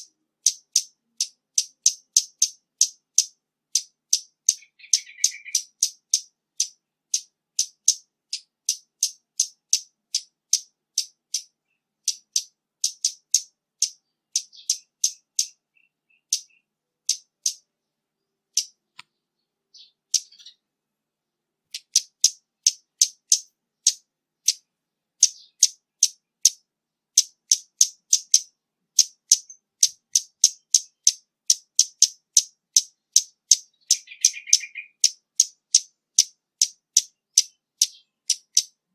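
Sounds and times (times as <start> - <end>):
bird ticking calls: 0.0 - 17.9, 18.5 - 20.7, 21.7 - 38.9.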